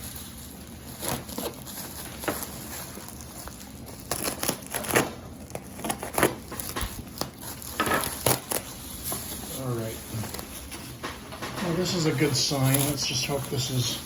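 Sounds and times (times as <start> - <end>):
packing material crinkling: 0.0 - 14.0.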